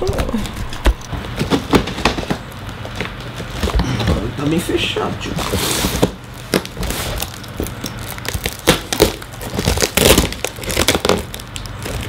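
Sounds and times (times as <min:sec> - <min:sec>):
plastic wrap crackling: 0:00.0 - 0:04.6, 0:05.2 - 0:12.0.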